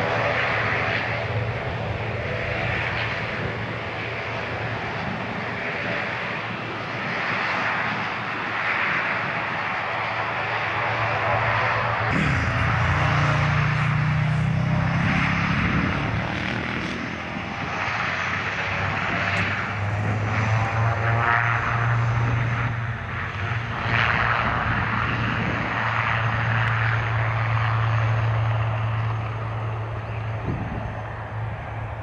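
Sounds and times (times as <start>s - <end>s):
turboprop engines and propellers: 0.0s - 32.0s.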